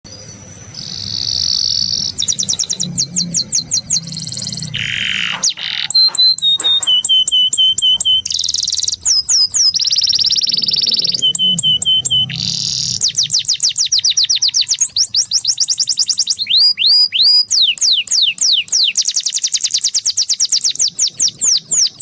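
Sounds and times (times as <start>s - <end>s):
canary singing trills: 0.1s - 22.0s.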